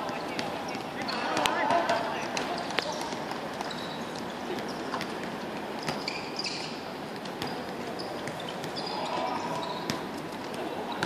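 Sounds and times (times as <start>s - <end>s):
football match background noise: 0.0s - 11.0s.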